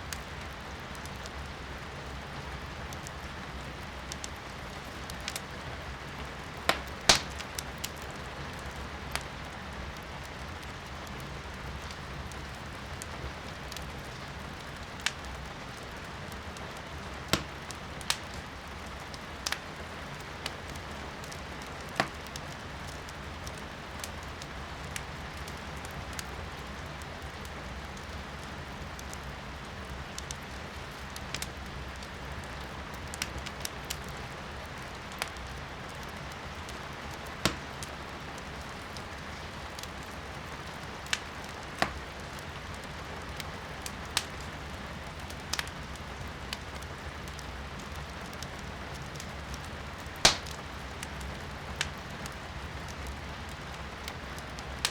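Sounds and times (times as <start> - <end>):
firewood crackling and popping: 0.0 - 54.9.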